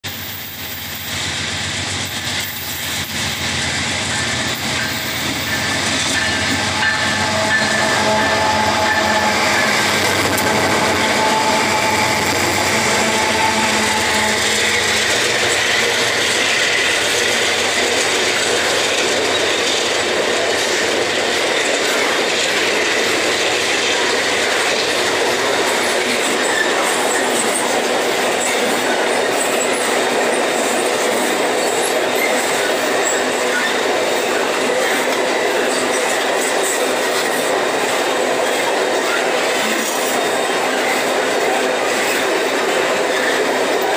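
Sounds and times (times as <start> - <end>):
train wagons rattling on rails: 0.0 - 43.9
locomotive engine: 0.6 - 43.9.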